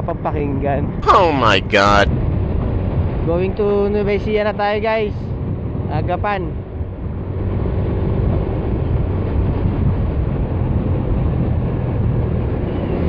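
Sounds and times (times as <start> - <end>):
wind and road noise: 2.3 - 13.0.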